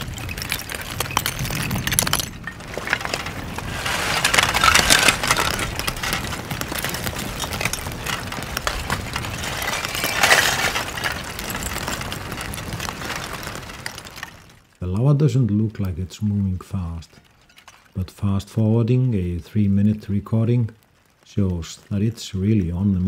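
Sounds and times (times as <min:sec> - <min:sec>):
lava crust crackling: 0:00.0 - 0:23.0.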